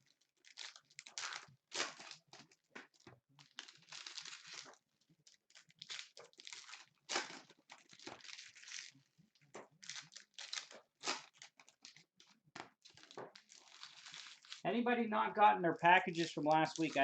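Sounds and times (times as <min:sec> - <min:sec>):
plastic wrappers crinkling and tearing: 0:00.0 - 0:14.6, 0:15.8 - 0:17.0.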